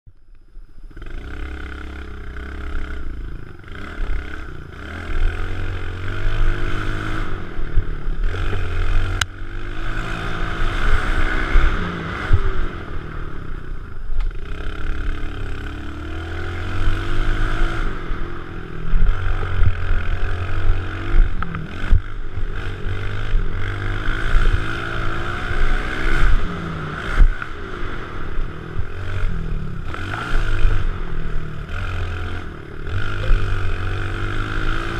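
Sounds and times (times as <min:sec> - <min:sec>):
motorbike engine revving: 0:00.9 - 0:34.9.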